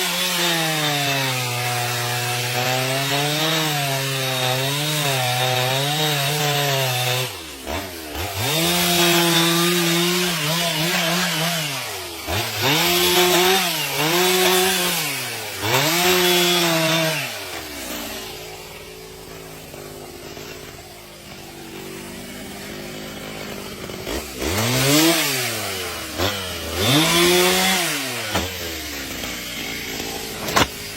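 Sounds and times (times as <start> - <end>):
chainsaw cutting wood: 0.0 - 30.9
chainsaw idling: 0.0 - 30.9.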